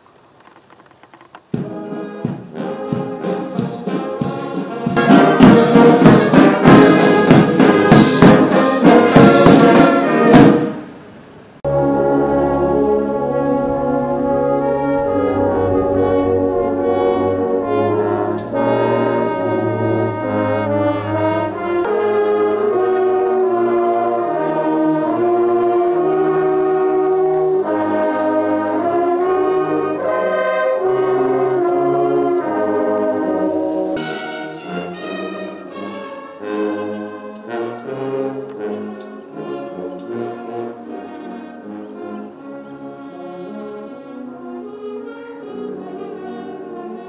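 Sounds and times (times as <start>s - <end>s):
brass band playing slow anthem: 1.5s - 47.0s.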